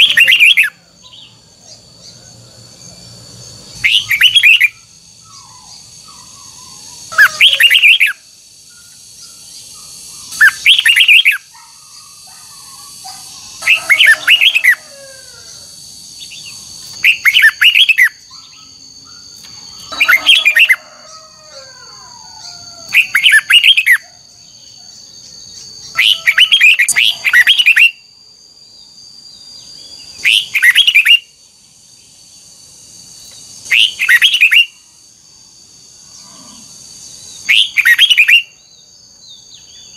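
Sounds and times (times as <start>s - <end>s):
bulbul singing: 0.0s - 31.4s, 37.2s - 39.9s
steady high-pitched whine: 0.0s - 39.9s.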